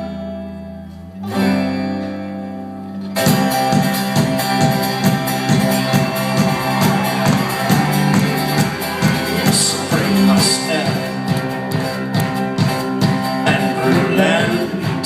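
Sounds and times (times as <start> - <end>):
acoustic guitar chords: 0.0 - 15.0
folk-rock band strumming: 0.0 - 15.0.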